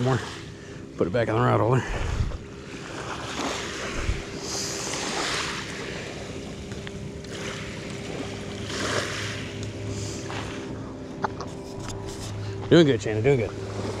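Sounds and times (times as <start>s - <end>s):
steady low drone: 0.0s - 14.0s.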